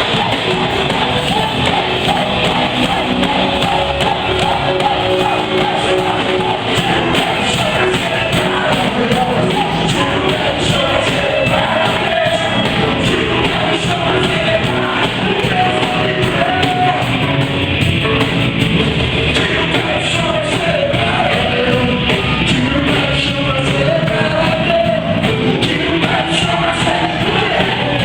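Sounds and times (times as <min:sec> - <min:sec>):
person singing: 0:00.0 - 0:17.8, 0:19.2 - 0:28.0
worship band playing: 0:00.0 - 0:28.0.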